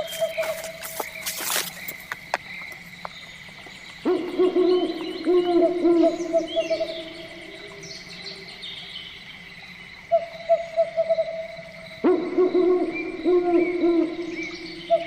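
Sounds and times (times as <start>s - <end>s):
bird chirps: 0.0s - 9.4s, 12.0s - 15.0s
birds hooting: 0.0s - 9.5s, 10.1s - 15.0s.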